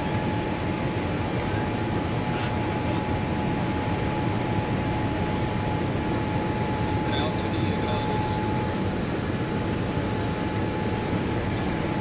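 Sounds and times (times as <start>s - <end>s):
airplane cabin engine rush: 0.0s - 12.0s.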